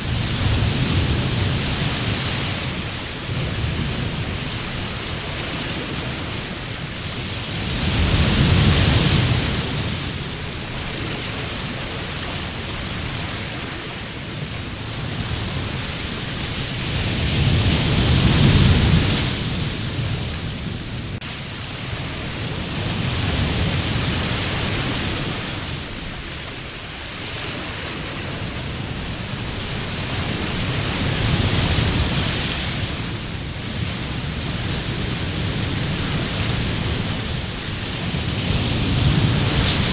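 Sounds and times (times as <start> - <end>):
sea surf breaking on beach: 0.0 - 39.9.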